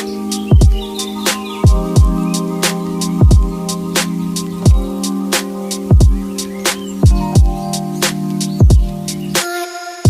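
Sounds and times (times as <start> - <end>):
laid-back hip hop beat: 0.0 - 10.0.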